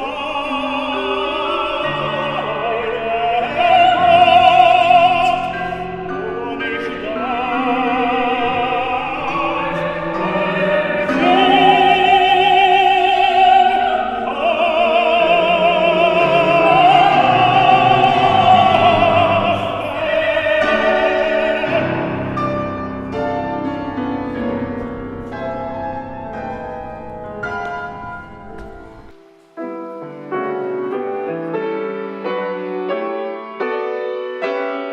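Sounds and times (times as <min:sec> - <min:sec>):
operatic singing: 0:00.0 - 0:29.1
piano accompaniment: 0:00.0 - 0:34.9.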